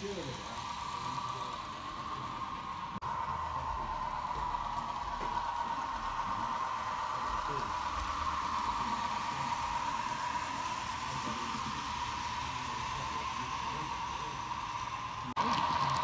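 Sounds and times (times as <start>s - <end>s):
mechanical whirring hiss: 0.0s - 16.0s.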